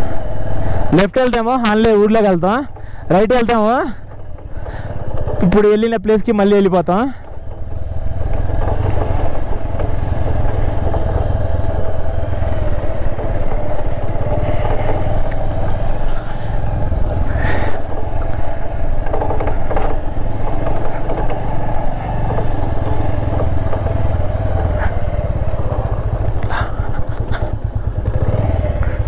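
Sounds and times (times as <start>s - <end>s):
motorcycle engine rumble: 0.0s - 29.0s
clattering knocks: 1.2s - 28.4s.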